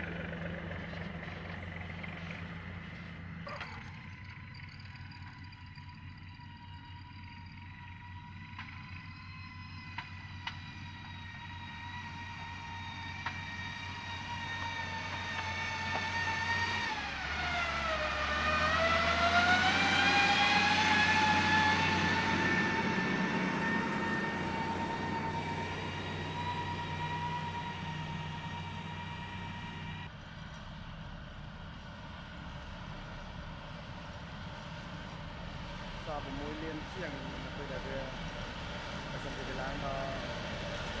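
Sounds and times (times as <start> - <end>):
diesel machine engine whining: 0.0 - 41.0.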